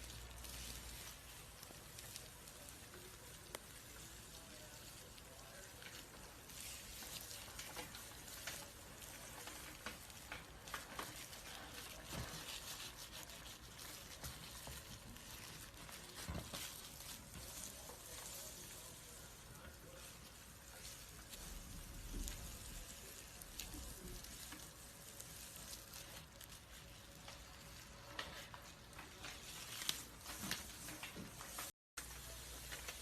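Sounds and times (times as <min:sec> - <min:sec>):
snake skin crackling and rustling: 0:00.0 - 0:33.0.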